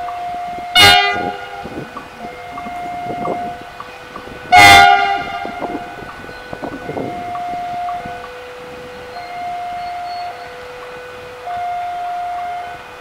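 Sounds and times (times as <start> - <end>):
locomotive horn blasts: 0.0 - 13.0
two-note warning tone: 0.0 - 13.0.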